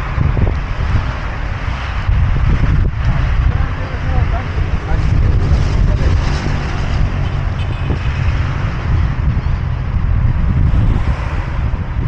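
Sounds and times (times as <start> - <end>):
road traffic noise: 0.0 - 12.0
wind rumbling on microphone: 0.0 - 12.0.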